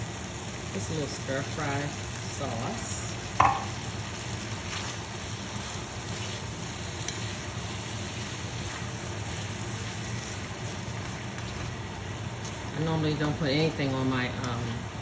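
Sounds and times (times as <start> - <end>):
food sizzling in a frying pan: 0.0 - 15.0
low steady hum: 0.0 - 15.0.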